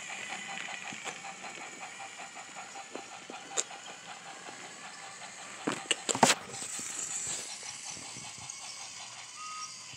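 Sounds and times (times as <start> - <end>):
toy train running on track: 0.0 - 9.9.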